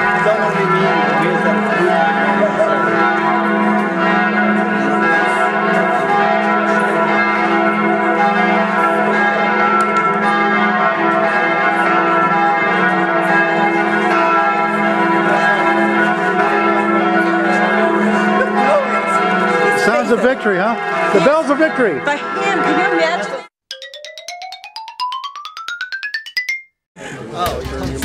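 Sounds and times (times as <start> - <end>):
church bells pealing: 0.0 - 23.5.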